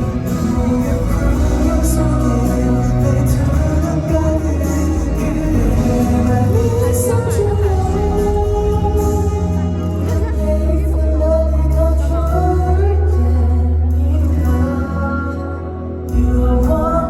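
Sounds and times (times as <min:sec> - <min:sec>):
person singing: 0:00.0 - 0:17.0
pop ballad over sound system: 0:00.0 - 0:17.0.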